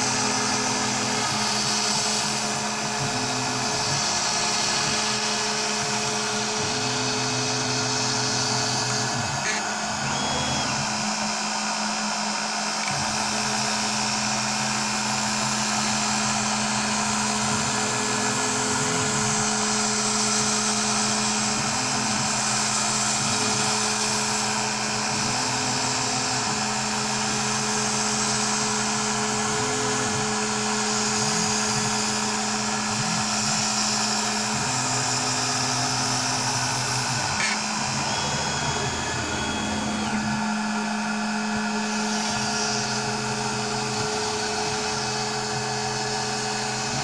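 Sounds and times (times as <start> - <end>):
motor hum changing pitch: 0.0 - 47.0
router spindle whine: 0.0 - 47.0.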